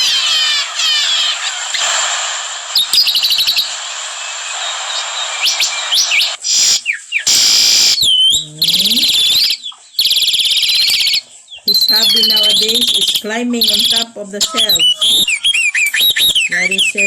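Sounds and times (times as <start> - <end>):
small birds chirping and trilling: 0.0 - 2.0, 2.8 - 3.8, 4.5 - 17.0.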